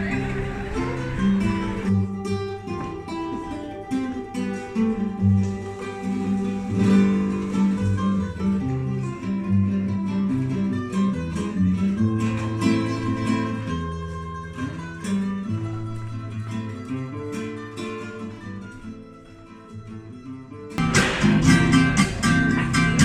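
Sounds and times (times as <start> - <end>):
plucked acoustic guitar: 0.0 - 23.0.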